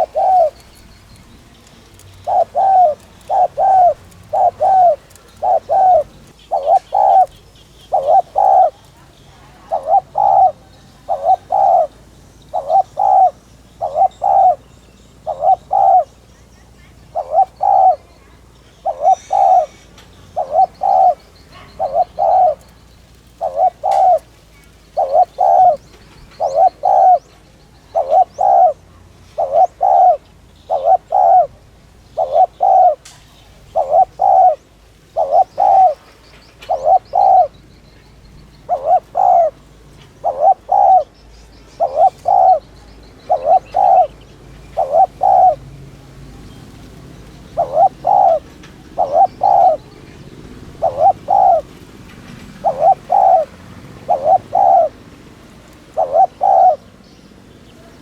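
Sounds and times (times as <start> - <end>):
dove cooing: 0.0 - 37.6, 38.2 - 45.6, 46.4 - 57.0.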